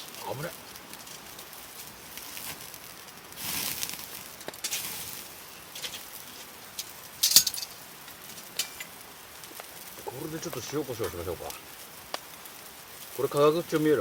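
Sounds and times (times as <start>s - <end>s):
campfire crackles: 0.0s - 14.0s
meat sizzling over fire: 0.0s - 14.0s.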